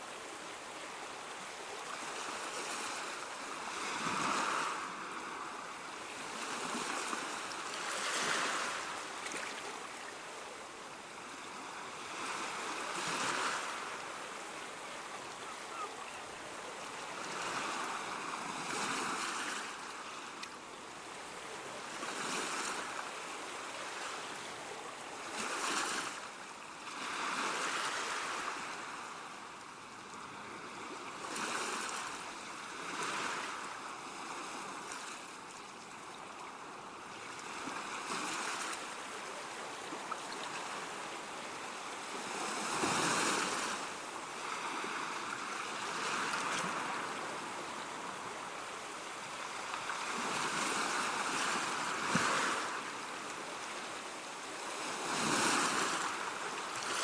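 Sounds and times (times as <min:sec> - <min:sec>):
ocean waves breaking: 0:00.0 - 0:29.2, 0:37.5 - 0:57.0.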